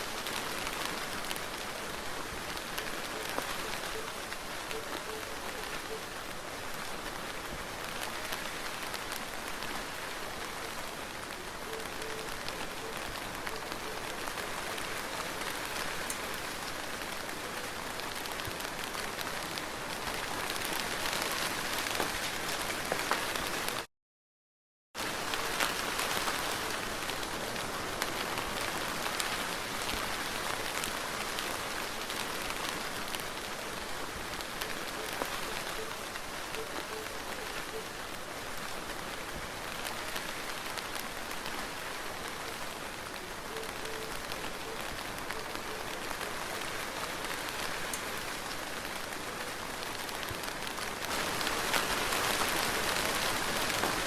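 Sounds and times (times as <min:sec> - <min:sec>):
soft rain pattering: 0:00.0 - 0:23.9, 0:25.0 - 0:54.0.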